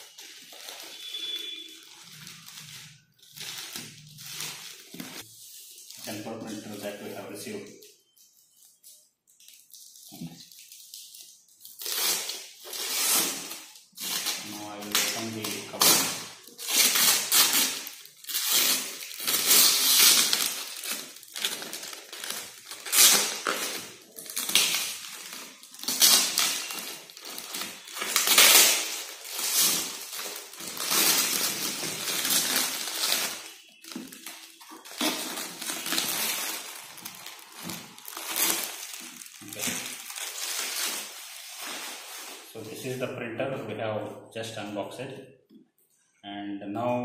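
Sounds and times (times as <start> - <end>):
plastic bag crinkling: 0.0 - 8.2, 9.3 - 42.9.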